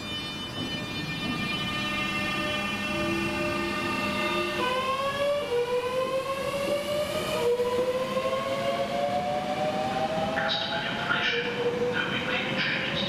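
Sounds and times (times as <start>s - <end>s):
electric train whine: 0.0s - 13.0s
rough train noise: 0.0s - 13.0s.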